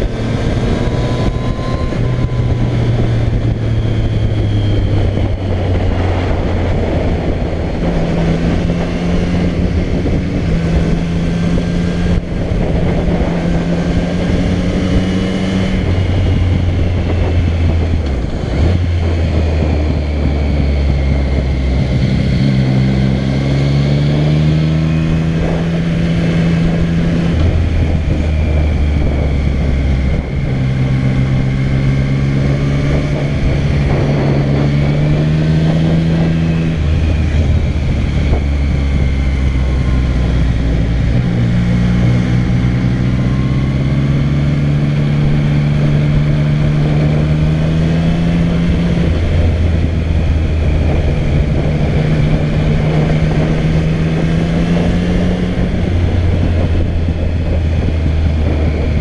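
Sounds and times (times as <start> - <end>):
motorcycle engine while riding: 0.0 - 59.0
wind rush: 0.0 - 59.0.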